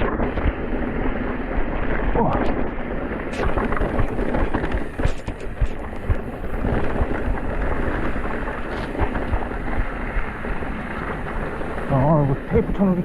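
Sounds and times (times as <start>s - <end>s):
bike knocking and rattling: 0.0s - 13.0s
wind rumble on microphone: 0.0s - 13.0s.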